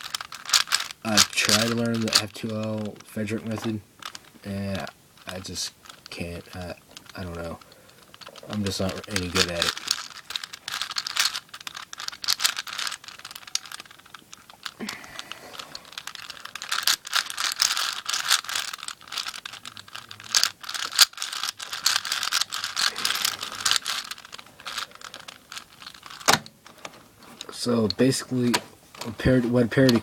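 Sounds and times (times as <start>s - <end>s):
puzzle cube clicking and clacking: 0.0s - 30.0s.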